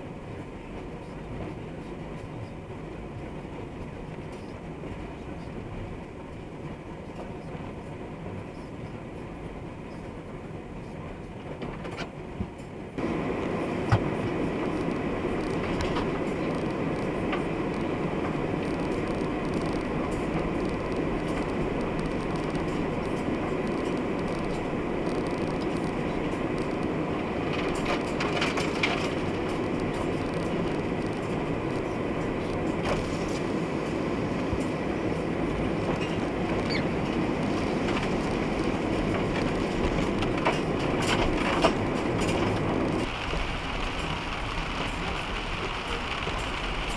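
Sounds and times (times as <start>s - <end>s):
truck engine rumble: 0.0s - 46.9s.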